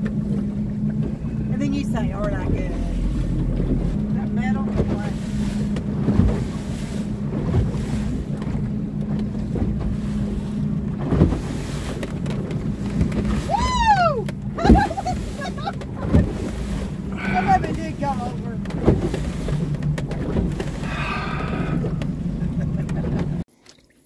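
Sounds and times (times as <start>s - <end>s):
wind and water rushing: 0.0s - 23.4s
hull thudding on waves: 0.0s - 23.5s
motorboat engine hum: 0.0s - 23.5s.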